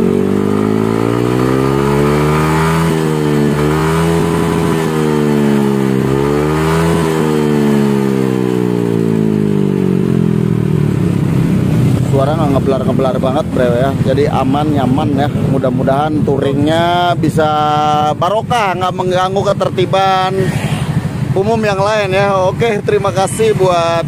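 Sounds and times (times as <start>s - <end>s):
scooter engine revving: 0.0s - 24.0s.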